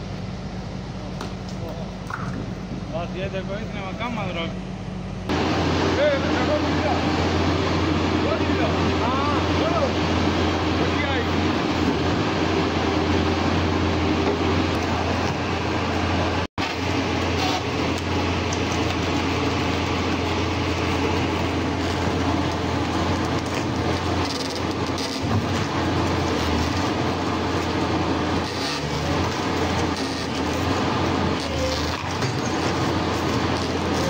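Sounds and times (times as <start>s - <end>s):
excavator diesel engine under load: 0.0s - 34.0s.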